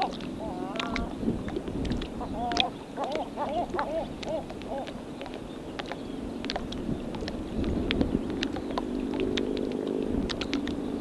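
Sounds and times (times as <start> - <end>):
sea lapping at shoreline: 0.0 - 11.0
small splashes and clicks: 0.0 - 11.0.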